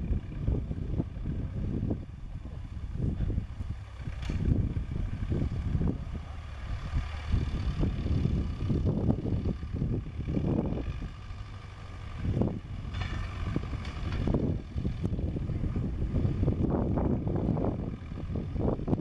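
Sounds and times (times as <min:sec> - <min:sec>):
tractor engine running under load: 0:00.0 - 0:19.0
wind buffeting the microphone: 0:00.0 - 0:19.0.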